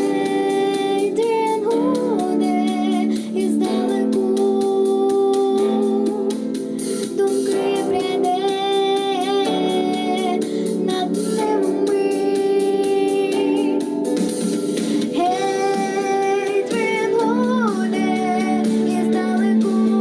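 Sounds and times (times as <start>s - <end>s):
young female voice singing: 0.0s - 6.4s, 7.1s - 14.0s, 15.2s - 20.0s
instrumental backing with beat: 0.0s - 20.0s.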